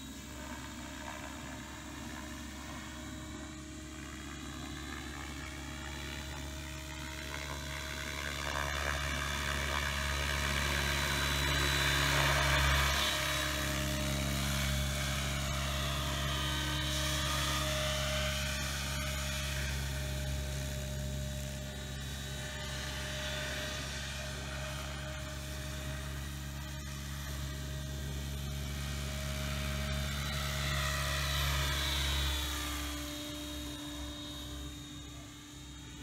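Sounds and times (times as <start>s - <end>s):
helicopter rotor drone: 0.0s - 36.0s
high motor and gear whine: 0.0s - 36.0s.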